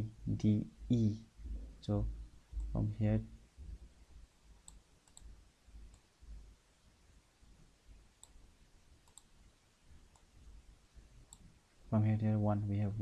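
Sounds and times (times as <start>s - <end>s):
faint low room rumble: 0.0s - 13.0s.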